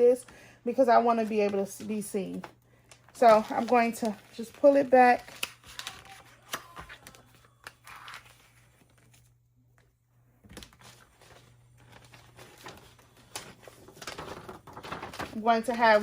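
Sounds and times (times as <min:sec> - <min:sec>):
plastic sheet crinkling: 0:00.0 - 0:09.4, 0:10.4 - 0:16.0.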